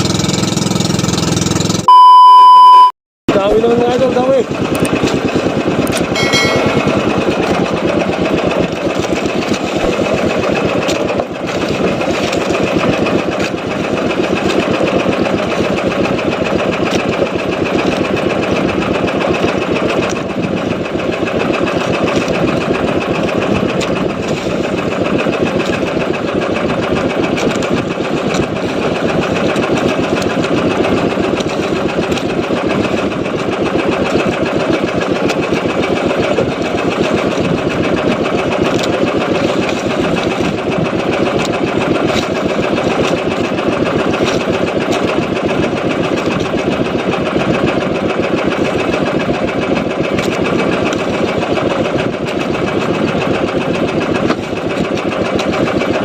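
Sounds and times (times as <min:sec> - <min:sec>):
boat engine running: 0:00.0 - 0:02.0, 0:03.3 - 0:56.0.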